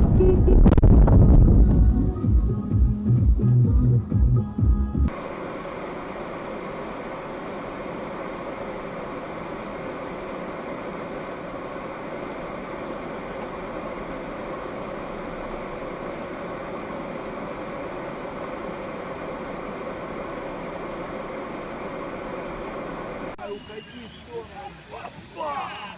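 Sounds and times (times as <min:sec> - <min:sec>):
car engine hum: 0:00.0 - 0:25.8
road noise: 0:05.1 - 0:25.9.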